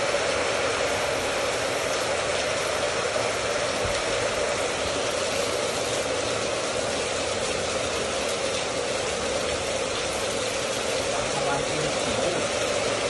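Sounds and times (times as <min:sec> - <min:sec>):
heavy rain: 0:00.0 - 0:13.0
water pouring off a roof gutter: 0:00.0 - 0:13.0.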